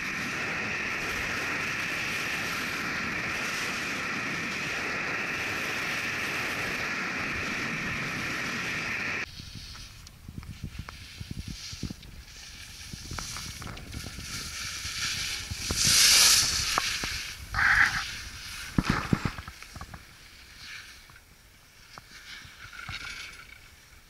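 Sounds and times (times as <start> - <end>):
wind buffeting microphone: 0.0 - 20.0
skis scraping on packed snow: 0.0 - 24.0.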